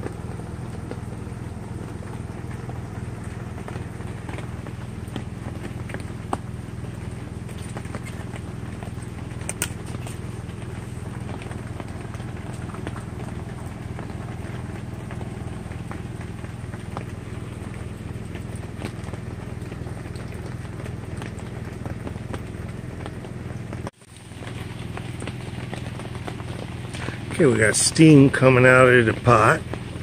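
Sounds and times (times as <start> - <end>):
camp stove burning: 0.0 - 30.0.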